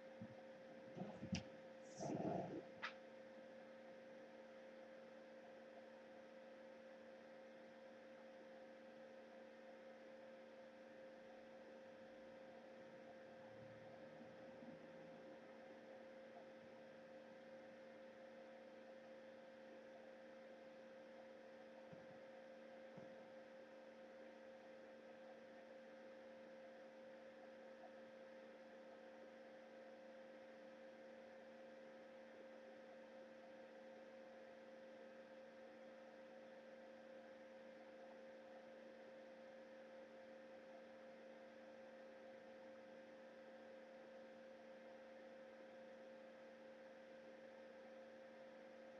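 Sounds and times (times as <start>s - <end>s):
faint electrical hum: 0.0s - 48.9s.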